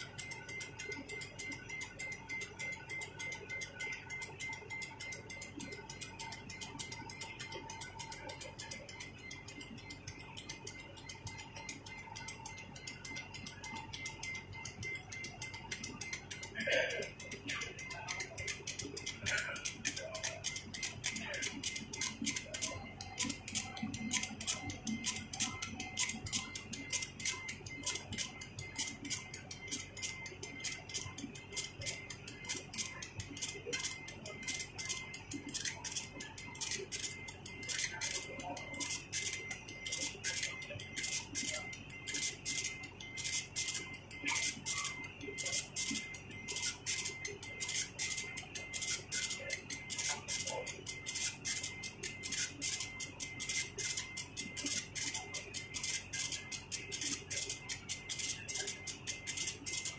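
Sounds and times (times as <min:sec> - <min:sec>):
fast even ticking: 0:00.0 - 0:59.9.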